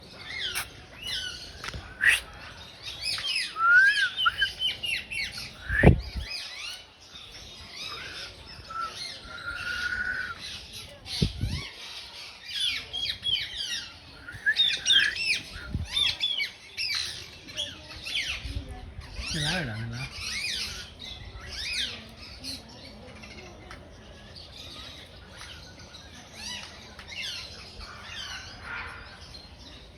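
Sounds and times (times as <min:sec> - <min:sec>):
small birds chirping and squawking: 0:00.0 - 0:29.9.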